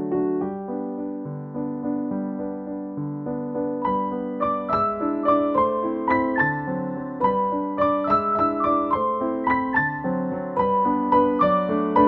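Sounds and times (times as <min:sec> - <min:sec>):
gentle piano waltz: 0:00.0 - 0:12.0.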